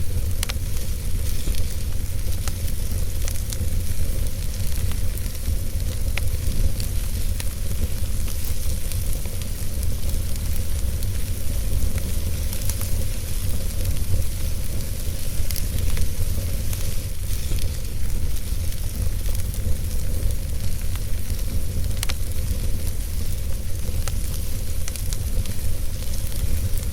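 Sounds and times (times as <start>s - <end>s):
fire crackles and pops: 0.0s - 26.9s
fire rumbling and hissing: 0.0s - 26.9s.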